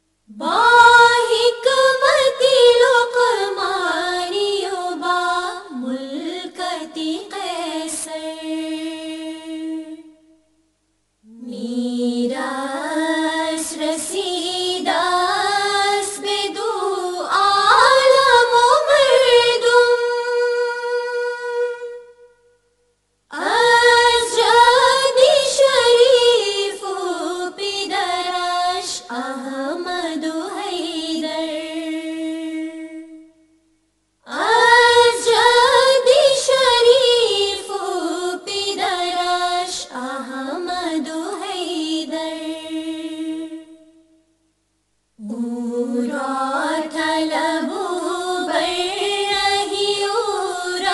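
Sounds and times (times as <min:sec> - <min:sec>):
person singing hymn unaccompanied: 0:00.3 - 0:10.4, 0:11.2 - 0:22.6, 0:23.3 - 0:33.5, 0:34.2 - 0:44.0, 0:45.2 - 0:50.9.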